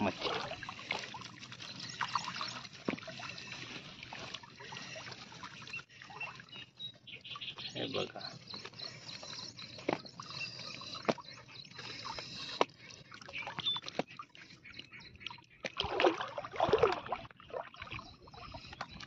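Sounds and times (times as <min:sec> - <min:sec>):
water sloshing around wading person: 0:00.0 - 0:19.0.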